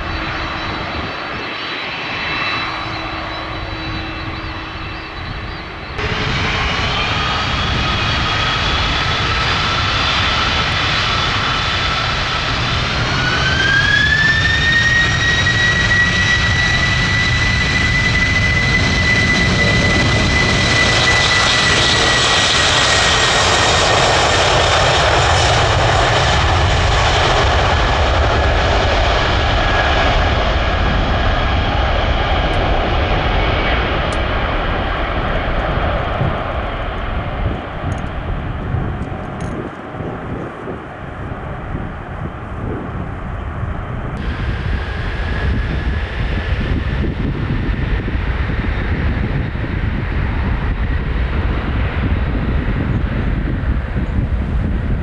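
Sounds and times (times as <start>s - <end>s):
jet engines whining and rumbling: 0.0s - 55.0s.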